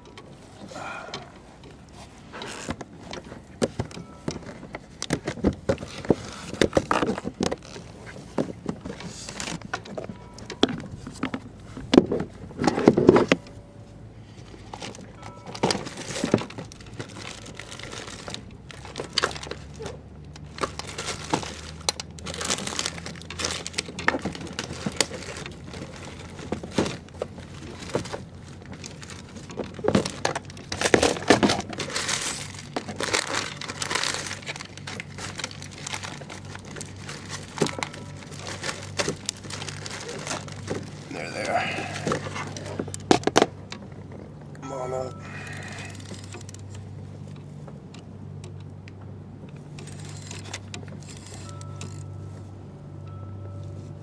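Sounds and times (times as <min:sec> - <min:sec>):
rummaging through gear: 0:00.0 - 0:48.6, 0:49.4 - 0:54.0
crinkling: 0:00.0 - 0:54.0.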